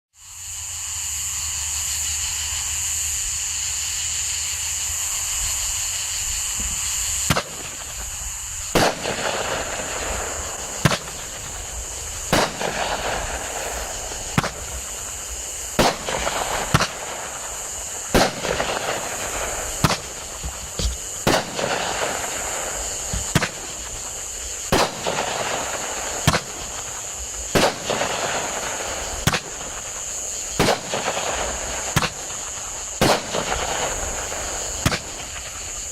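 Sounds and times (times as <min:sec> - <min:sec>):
high-pitched background hiss: 0:00.1 - 0:35.9
crackling glitter hiss: 0:00.2 - 0:35.9
firework shots: 0:01.2 - 0:35.9.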